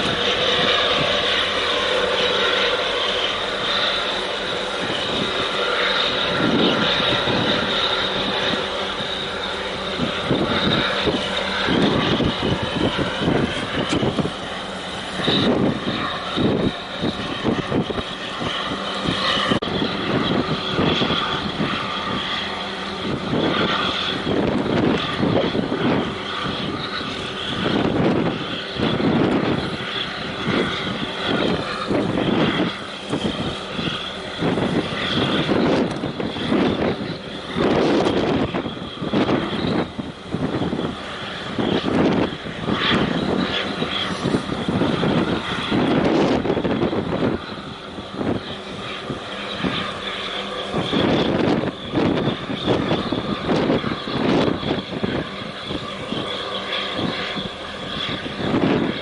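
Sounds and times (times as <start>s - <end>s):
droning engine hum: 0.0s - 59.0s
wind buffeting microphone: 0.0s - 59.0s.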